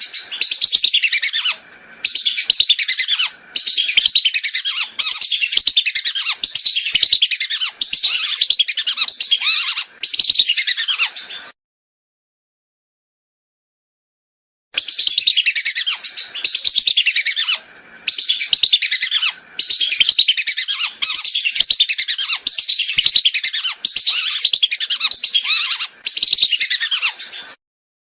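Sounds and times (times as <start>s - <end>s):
duck twittering whistles: 0.0s - 11.3s, 14.8s - 27.3s.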